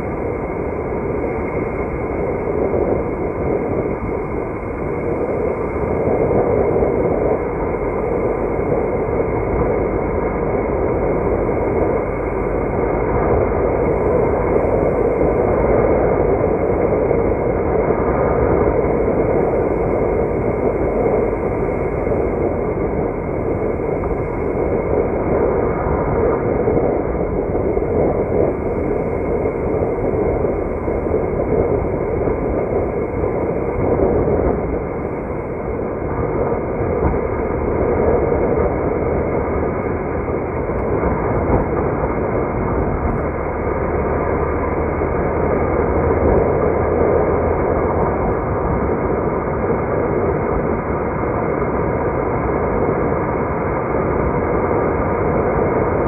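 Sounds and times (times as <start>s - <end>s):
car road noise: 0.0s - 56.0s.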